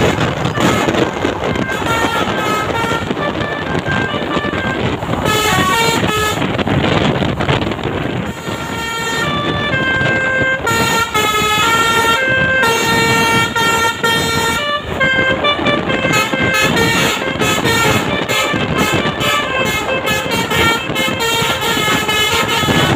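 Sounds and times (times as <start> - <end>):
musical air horn playing tune: 0.0 - 7.1, 7.9 - 22.9
bus engine and road noise: 0.0 - 22.9.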